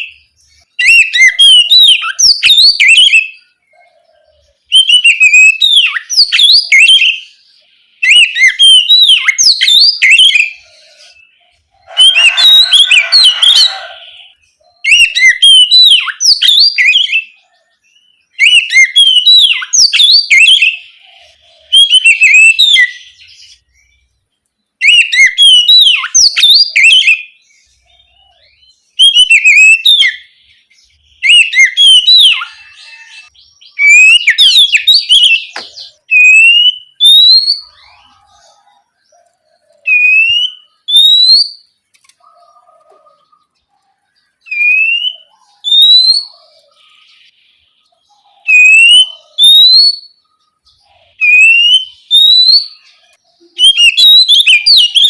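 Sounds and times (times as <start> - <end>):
magpie-robin singing: 0.0 - 24.1, 24.7 - 55.0.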